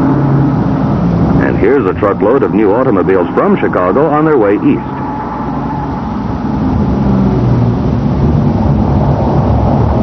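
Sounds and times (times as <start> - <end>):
road traffic engine noise: 0.0 - 10.0.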